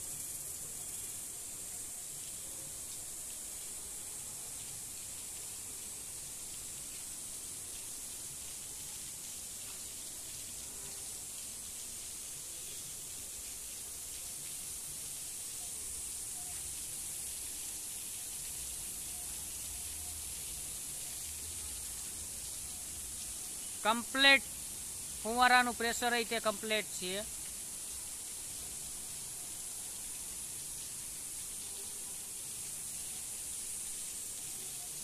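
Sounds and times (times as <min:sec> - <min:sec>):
water spraying from sprinklers: 0:00.0 - 0:35.0.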